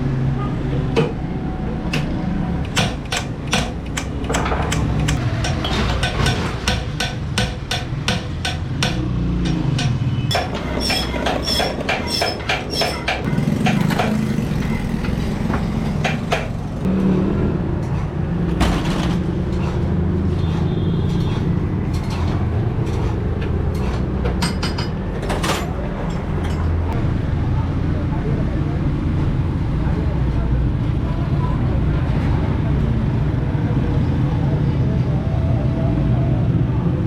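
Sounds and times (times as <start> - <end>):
engine-like hum: 0.0 - 37.0.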